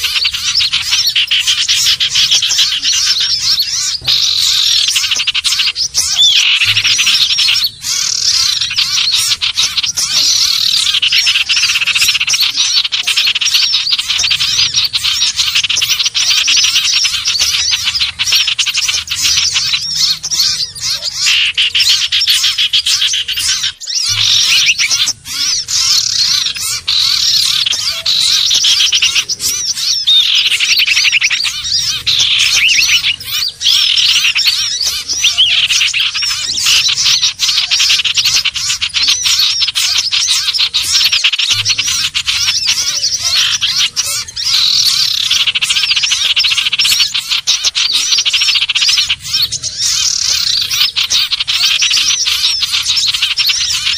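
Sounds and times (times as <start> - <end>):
downward-sliding bird whistle: 0.0 - 47.2
bird chattering chirps: 0.0 - 53.9.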